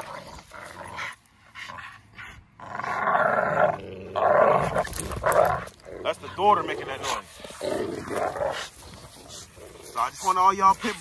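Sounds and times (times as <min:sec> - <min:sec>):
dogs growling: 0:00.0 - 0:11.0.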